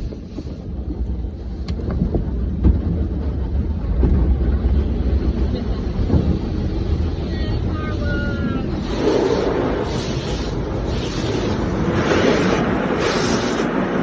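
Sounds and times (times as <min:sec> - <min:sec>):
automatic car wash rumble: 0:00.0 - 0:14.0.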